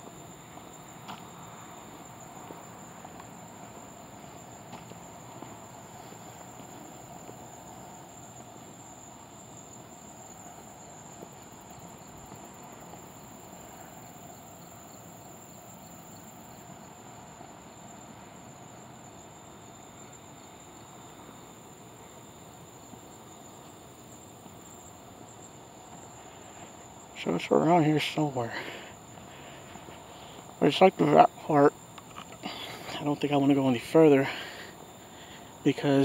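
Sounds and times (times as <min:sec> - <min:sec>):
crickets chirring: 0:00.0 - 0:36.0
faint pulsing insect call: 0:00.0 - 0:36.0.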